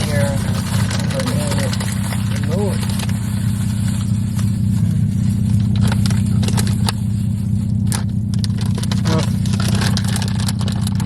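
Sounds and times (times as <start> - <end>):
car engine idling: 0.0 - 11.0
small rustles: 0.0 - 11.0.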